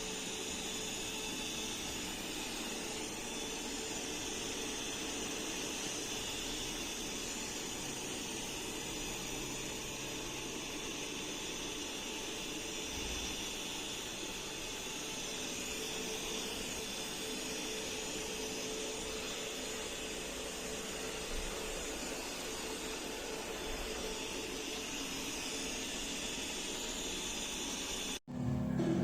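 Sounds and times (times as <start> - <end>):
robot vacuum whirring: 0.0 - 28.2.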